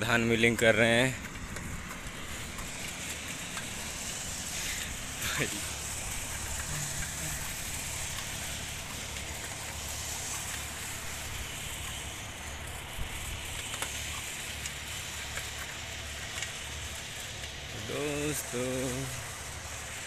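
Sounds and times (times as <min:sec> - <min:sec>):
bicycle tyre clicks and crunches: 0:00.0 - 0:20.0.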